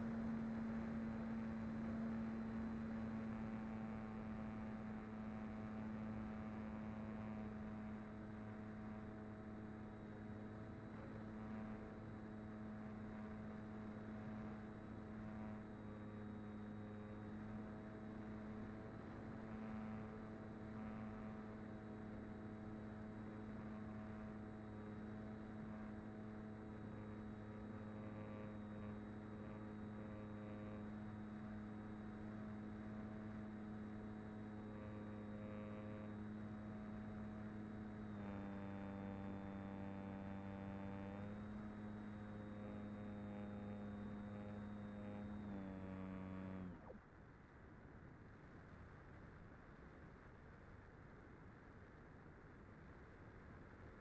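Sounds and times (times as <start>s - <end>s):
electric motor and propeller humming: 0.0s - 47.0s.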